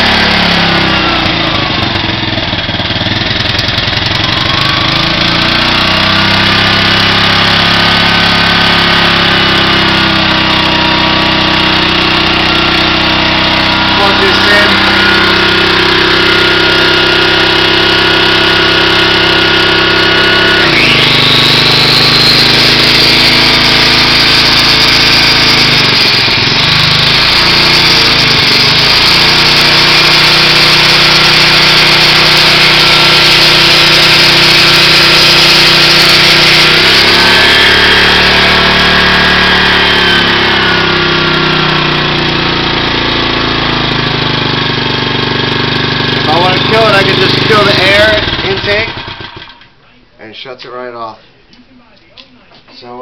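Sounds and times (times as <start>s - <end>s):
angle grinder whine: 0.0s - 49.8s
generator engine running: 0.0s - 50.0s.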